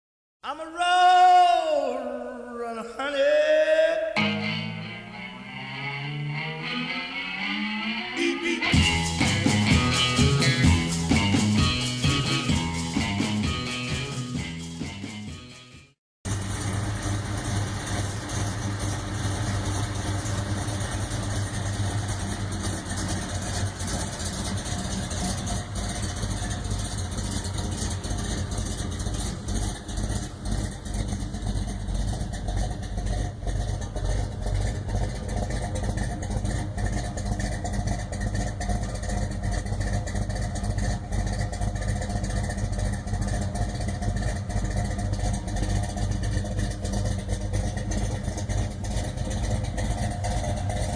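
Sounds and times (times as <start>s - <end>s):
car engine idling: 4.2s - 50.9s.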